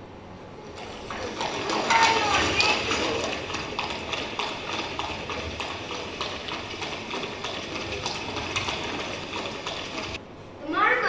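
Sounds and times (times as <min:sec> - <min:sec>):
horse hooves clip-clopping: 0:00.7 - 0:10.2.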